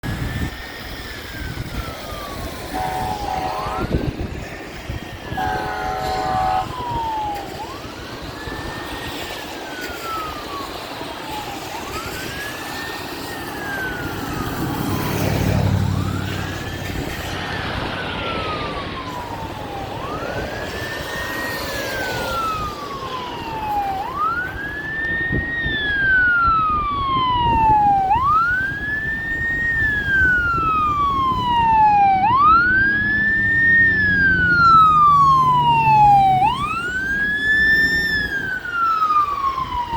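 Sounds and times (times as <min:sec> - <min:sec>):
fire engine siren wailing: 0:00.0 - 0:39.9.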